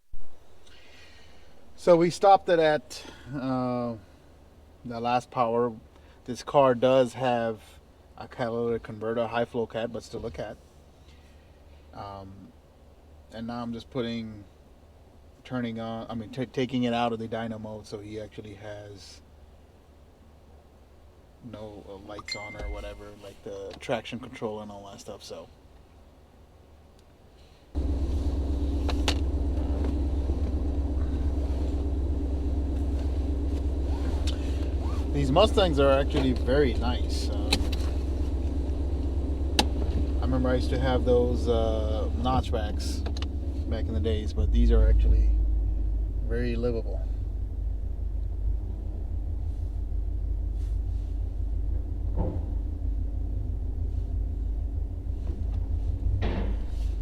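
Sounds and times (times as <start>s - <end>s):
car engine droning: 0.0s - 17.6s, 19.2s - 23.7s, 27.4s - 57.0s.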